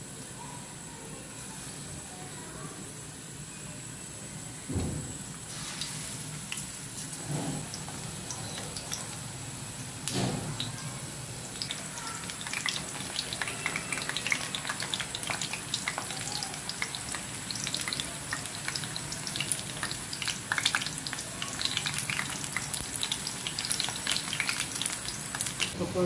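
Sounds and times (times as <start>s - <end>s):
food deep-frying in oil: 3.0s - 26.0s.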